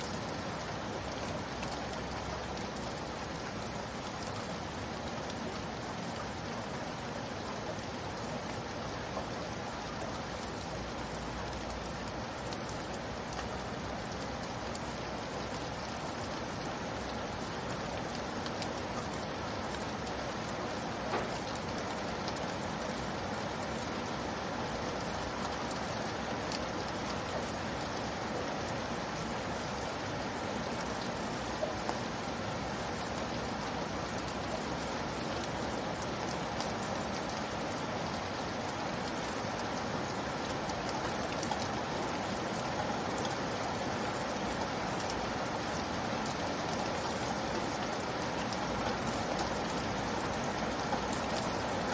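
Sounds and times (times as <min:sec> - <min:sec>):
rain falling: 0:00.0 - 0:51.9.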